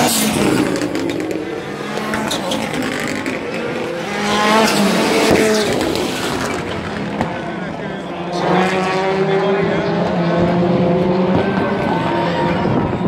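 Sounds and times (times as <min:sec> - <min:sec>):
race cars accelerating past: 0:00.0 - 0:13.0.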